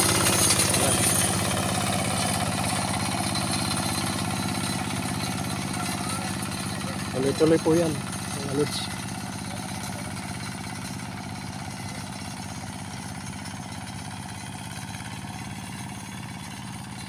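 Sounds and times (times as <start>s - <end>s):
hand tractor diesel engine running: 0.0s - 17.0s.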